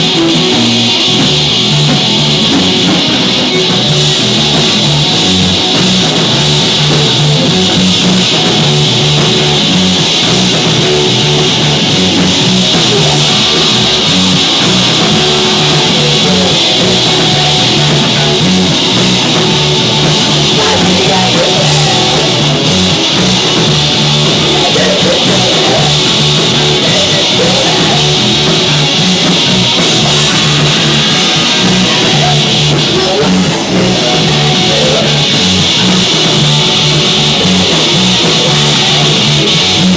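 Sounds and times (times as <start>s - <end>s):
bass guitar: 0.0s - 39.9s
distorted electric guitar: 0.0s - 39.9s
drum kit with crashing cymbals: 0.0s - 39.9s.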